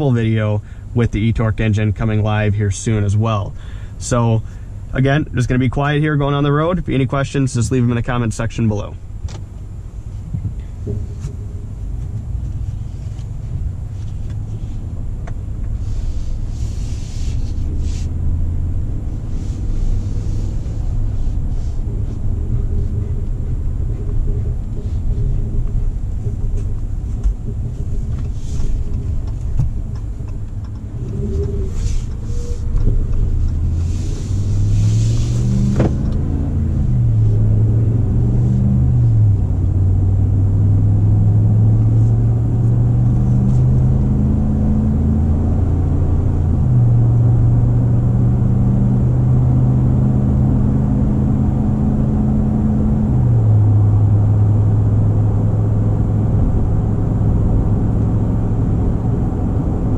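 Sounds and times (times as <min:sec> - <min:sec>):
road noise rumble: 0:00.0 - 0:59.9
truck engine accelerating through gears: 0:00.0 - 0:59.9.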